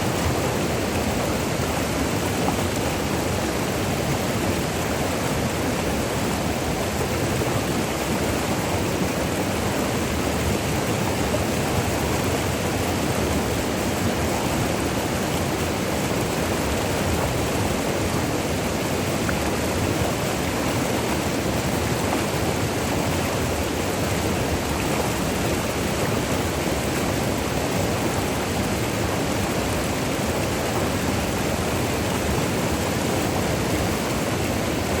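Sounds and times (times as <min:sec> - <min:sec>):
river water rushing over falls: 0:00.0 - 0:35.0.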